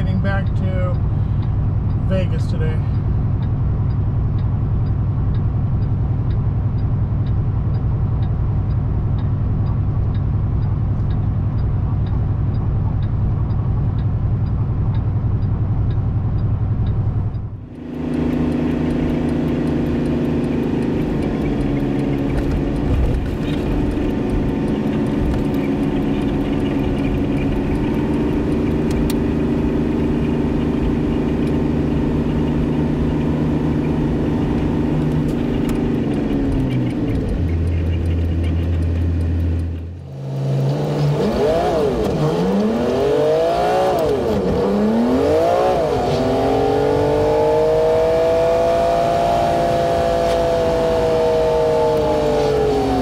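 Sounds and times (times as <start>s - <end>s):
truck engine and road noise: 0.0s - 53.0s
faint regular tick: 0.4s - 45.2s, 48.6s - 53.0s.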